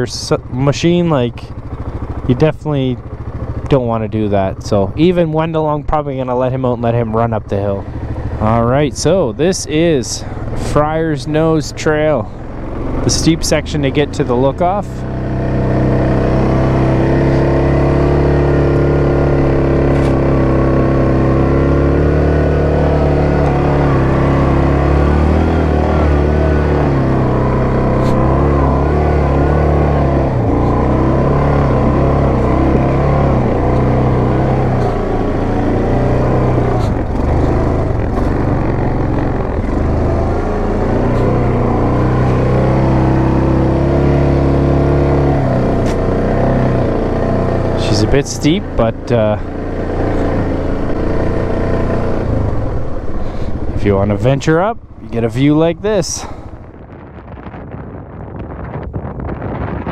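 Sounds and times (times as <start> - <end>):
atv engine under load: 0.0 - 57.0.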